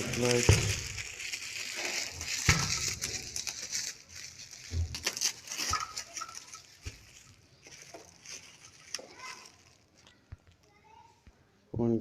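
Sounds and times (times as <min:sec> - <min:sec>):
packaging rustling: 0:00.0 - 0:10.7.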